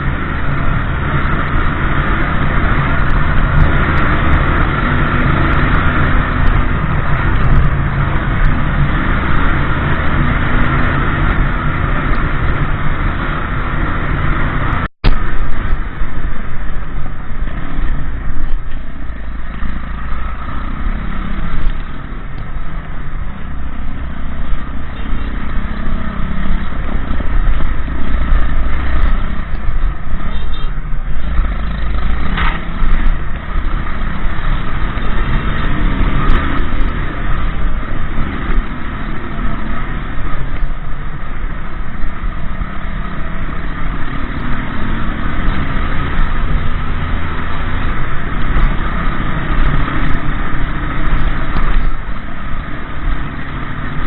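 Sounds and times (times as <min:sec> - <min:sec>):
motorcycle engine rumble: 0:00.0 - 0:54.0.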